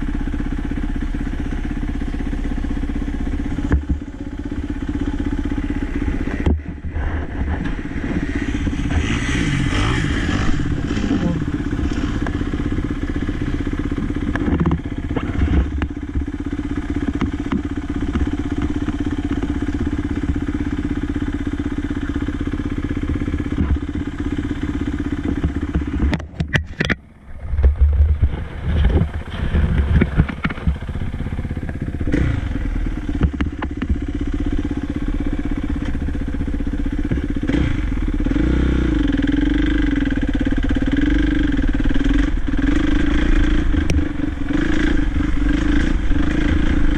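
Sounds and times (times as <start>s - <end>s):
dirt bike engine running: 0.0s - 46.9s
wind: 0.0s - 46.9s.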